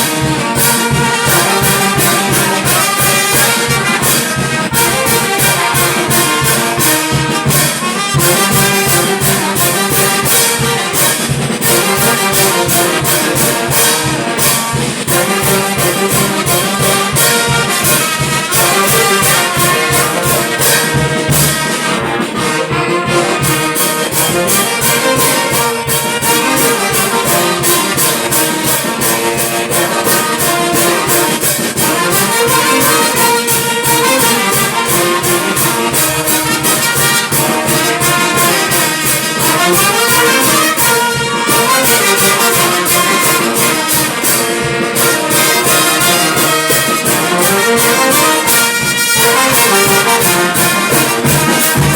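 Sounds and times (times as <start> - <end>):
steady beat: 0.0 - 51.9
trumpets and trombones playing: 0.0 - 51.9.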